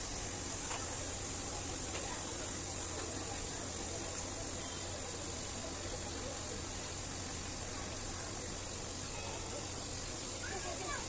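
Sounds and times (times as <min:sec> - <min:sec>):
food deep-frying in hot oil: 0:00.0 - 0:11.0.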